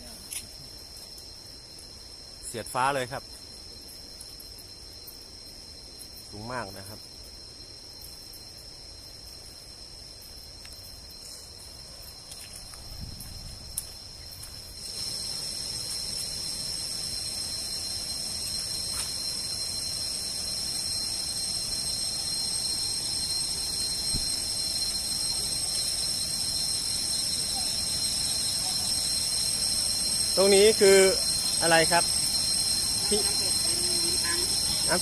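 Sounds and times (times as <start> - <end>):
insects shrilling: 0.0 - 35.0.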